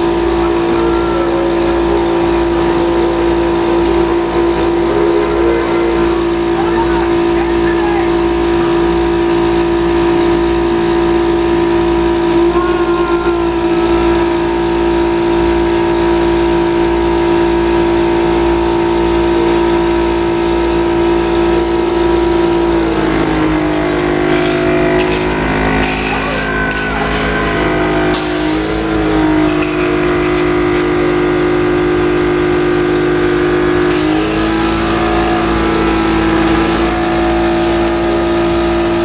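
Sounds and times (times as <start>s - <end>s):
electric motor humming: 0.0s - 39.0s.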